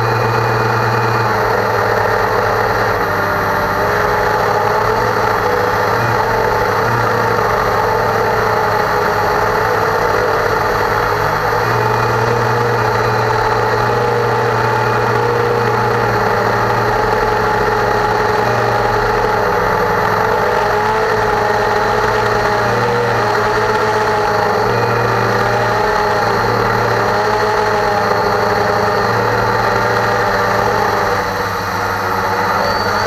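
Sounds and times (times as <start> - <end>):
quadcopter motors whining: 0.0 - 33.0.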